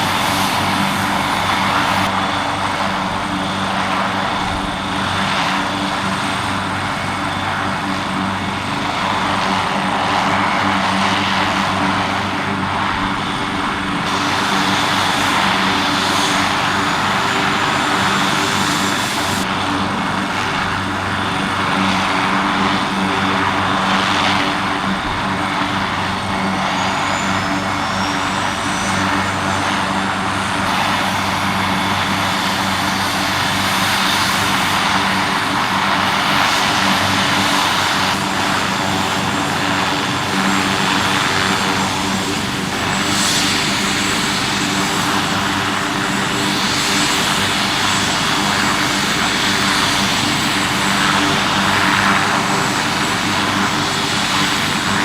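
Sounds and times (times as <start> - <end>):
helicopter turbine whine: 0.0 - 55.0.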